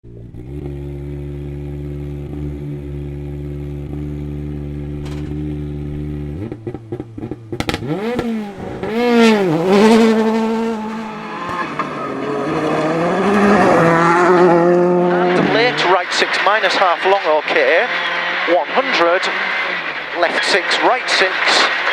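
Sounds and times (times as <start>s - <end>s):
rally car engine accelerating: 0.0s - 21.9s.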